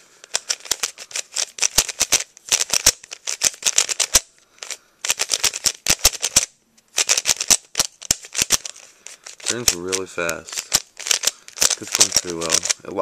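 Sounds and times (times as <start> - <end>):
puzzle cube clicking: 0.2 - 13.0.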